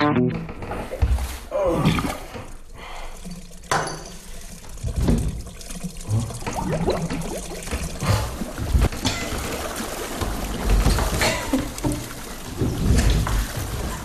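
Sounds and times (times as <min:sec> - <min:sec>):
bathwater sloshing and gurgling: 0:00.8 - 0:14.0
low splashes: 0:00.9 - 0:14.0.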